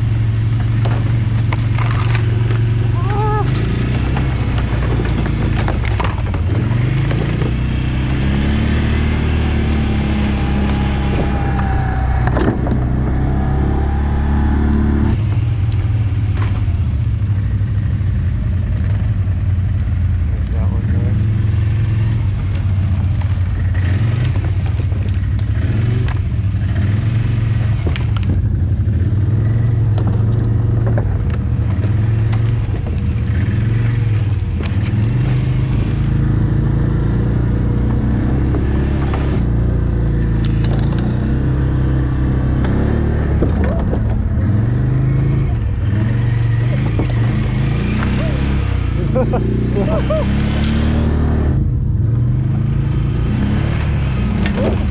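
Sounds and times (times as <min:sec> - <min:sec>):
quad engine running: 0:00.0 - 0:54.9.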